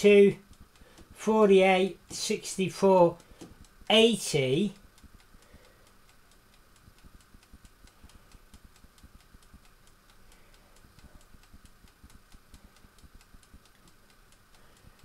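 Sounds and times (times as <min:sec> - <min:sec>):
fast timer ticking: 0:00.0 - 0:15.0.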